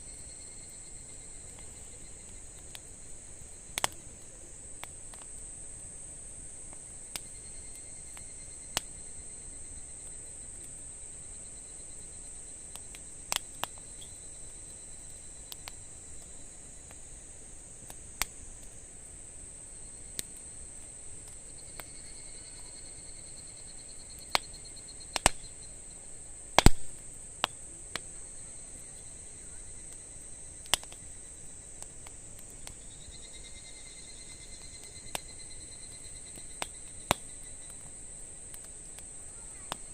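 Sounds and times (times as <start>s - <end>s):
campfire pops and crackles: 0.0s - 39.9s
fainter insect trill: 0.0s - 39.9s
insects chirring: 0.0s - 39.9s.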